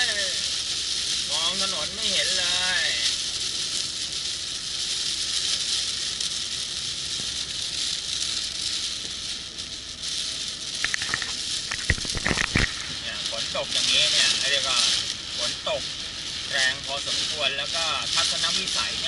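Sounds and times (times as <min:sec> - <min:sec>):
heavy rain on a car: 0:00.0 - 0:19.0.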